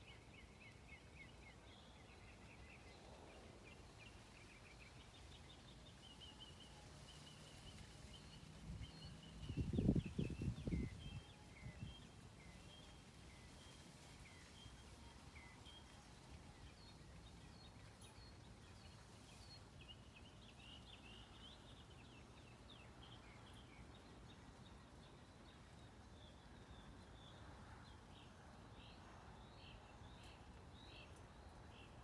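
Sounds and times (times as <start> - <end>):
low steady outdoor hum: 0.0 - 32.0.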